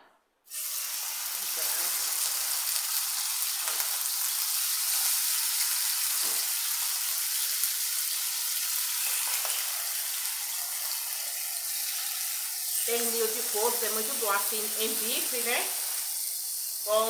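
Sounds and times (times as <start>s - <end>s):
meat sizzling in hot oil: 0.5s - 17.0s.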